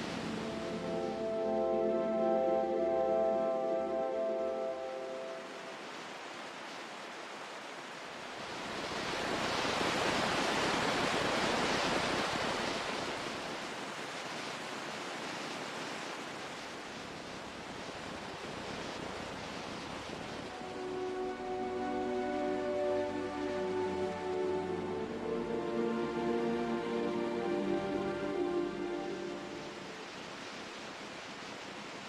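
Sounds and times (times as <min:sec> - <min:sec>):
ocean surf rushing: 0:00.0 - 0:32.0.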